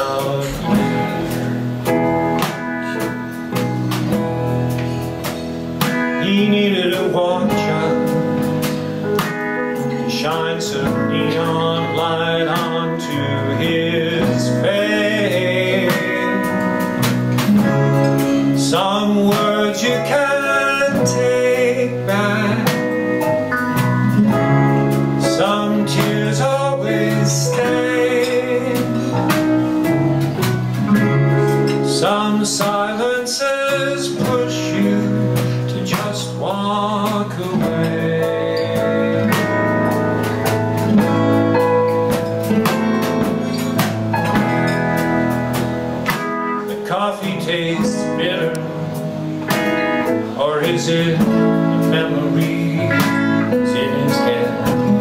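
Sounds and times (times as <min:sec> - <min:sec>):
man singing: 0:00.0 - 0:03.7, 0:05.3 - 0:41.3, 0:46.1 - 0:55.0
bass: 0:00.0 - 0:55.0
drums: 0:00.0 - 0:55.0
electric guitar: 0:00.0 - 0:55.0
piano: 0:00.0 - 0:55.0
strummed acoustic guitar: 0:00.0 - 0:55.0.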